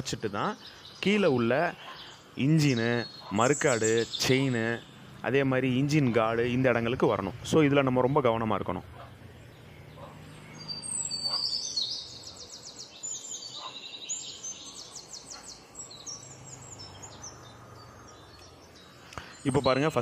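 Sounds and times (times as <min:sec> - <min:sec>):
small birds chirping trills: 0:00.0 - 0:20.0.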